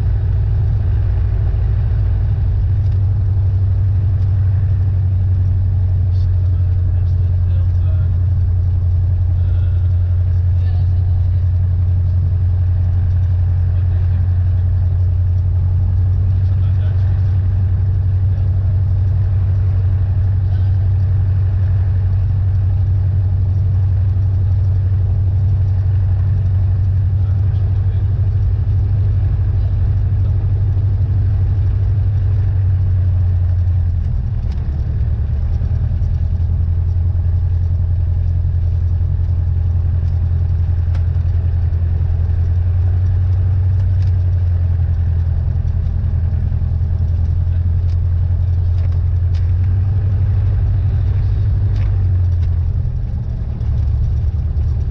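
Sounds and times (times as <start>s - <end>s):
airplane engine and propeller: 0.0s - 54.9s.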